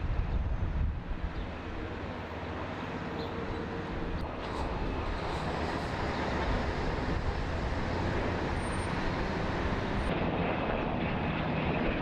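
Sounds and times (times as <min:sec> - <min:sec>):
helicopters flying overhead: 0:00.0 - 0:12.0.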